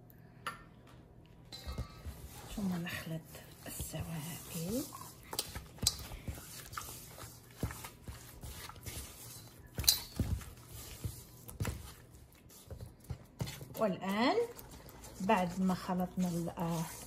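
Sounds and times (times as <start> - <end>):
spatula stirring sticky dough: 1.6 - 17.0.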